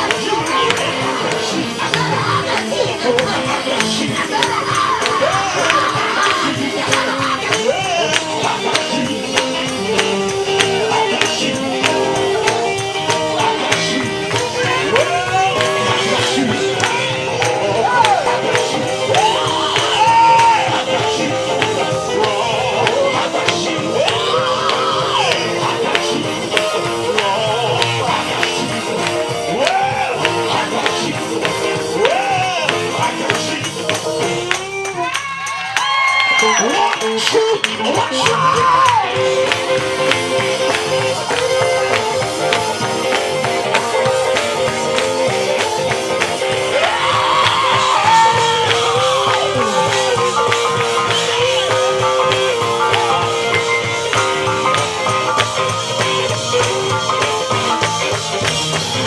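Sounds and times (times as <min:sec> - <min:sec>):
gospel band playing: 0:00.0 - 0:59.0
steady drum beat: 0:00.0 - 0:59.0.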